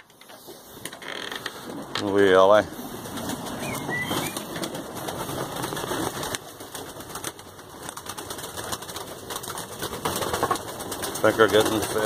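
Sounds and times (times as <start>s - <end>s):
feet and feathers rustling: 0.1s - 12.0s
pigeon wings flapping: 1.4s - 12.0s.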